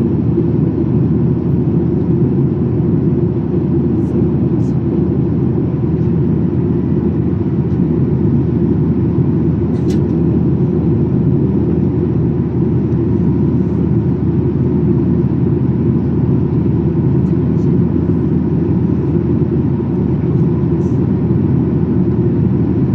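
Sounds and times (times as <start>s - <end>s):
jet engine drone in cabin: 0.0s - 22.9s.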